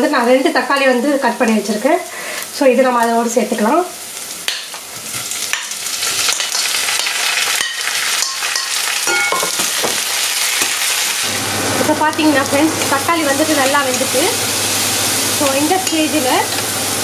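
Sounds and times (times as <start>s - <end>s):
tomatoes sizzling in hot oil: 0.0s - 17.0s.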